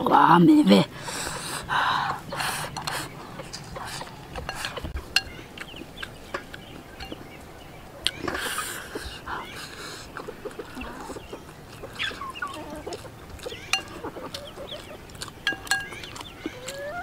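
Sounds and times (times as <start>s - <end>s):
chickens clucking: 1.0s - 17.0s.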